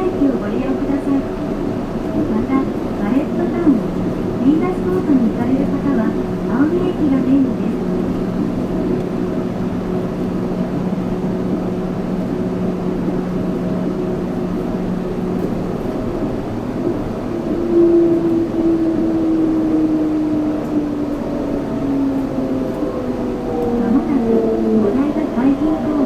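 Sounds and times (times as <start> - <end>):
train rolling noise and hum: 0.0 - 26.0.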